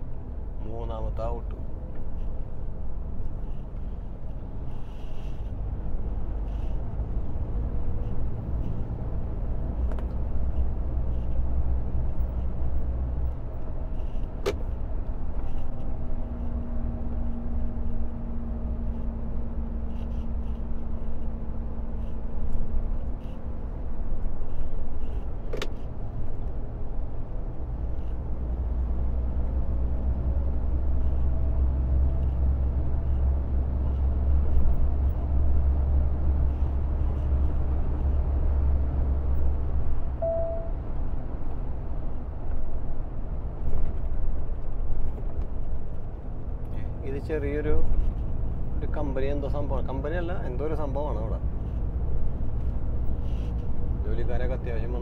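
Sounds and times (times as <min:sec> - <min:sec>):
truck engine and tyre rumble: 0:00.0 - 0:55.0.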